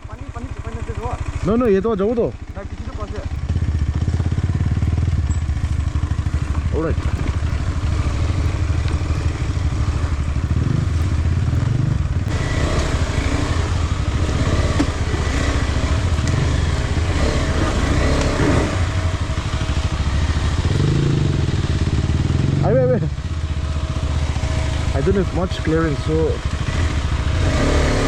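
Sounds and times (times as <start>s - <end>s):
off-road motorcycle engine running: 0.0s - 28.0s.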